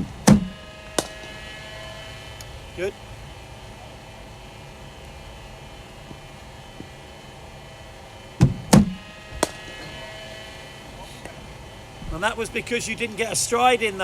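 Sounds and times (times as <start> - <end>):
bowling machine humming: 0.0 - 14.0.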